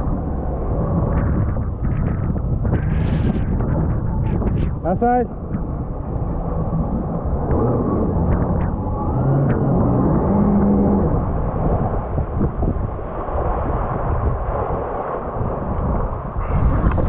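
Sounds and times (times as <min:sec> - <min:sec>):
jet ski engine running: 0:00.0 - 0:17.0
wind buffeting microphone: 0:00.0 - 0:17.0.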